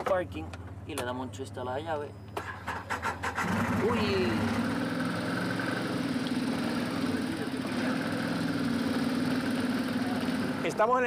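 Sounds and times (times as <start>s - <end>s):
buggy engine idling: 0.0s - 11.0s.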